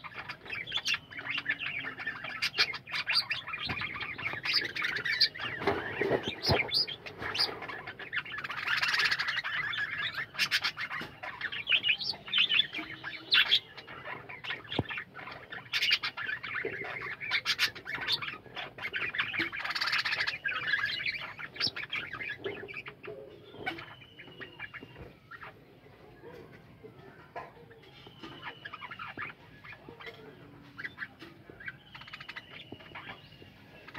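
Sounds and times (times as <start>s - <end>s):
budgerigars chattering and warbling: 0.0s - 33.9s.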